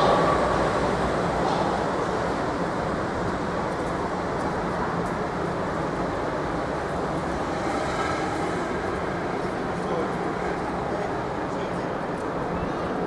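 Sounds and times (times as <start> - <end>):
city traffic noise: 0.0 - 13.0
trains rumbling on elevated track: 0.0 - 13.0.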